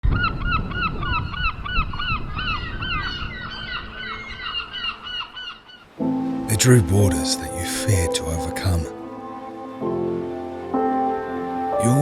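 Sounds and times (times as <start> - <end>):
flock of birds calling: 0.1 - 9.8.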